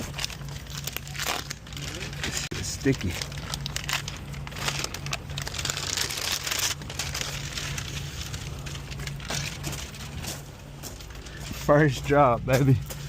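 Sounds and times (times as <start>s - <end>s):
material crinkling: 0.0s - 11.5s
low hum: 0.0s - 13.0s.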